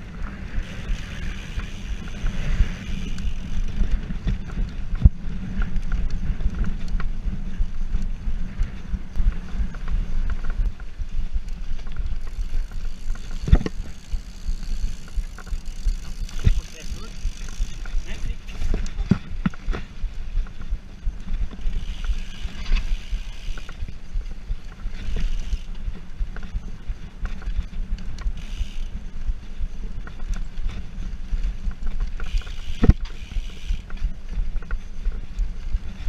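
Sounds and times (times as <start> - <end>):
bike rattling on dirt trail: 0.0 - 36.0
wind on microphone: 0.0 - 36.0.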